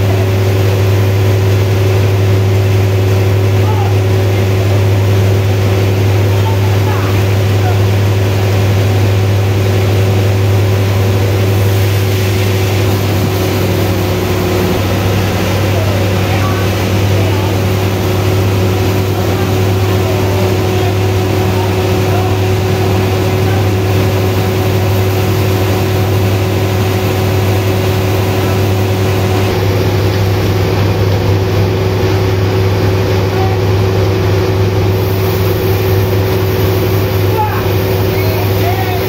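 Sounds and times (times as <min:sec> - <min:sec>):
sawmill machinery drone: 0:00.0 - 0:39.0.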